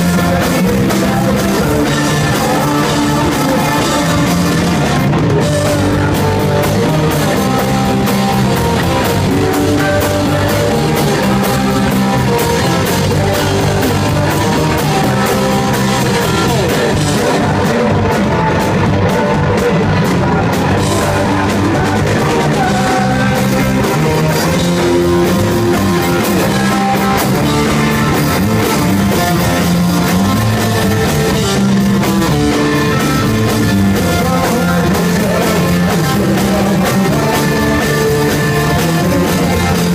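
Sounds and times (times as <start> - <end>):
drum kit: 0.0 - 39.9
electric bass: 0.0 - 39.9
electric guitar: 0.0 - 39.9
sung vocals: 0.0 - 39.9.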